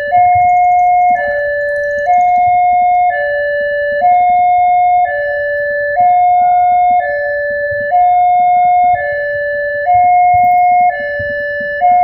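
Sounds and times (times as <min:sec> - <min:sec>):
two-tone crossing alarm: 0:00.0 - 0:12.0.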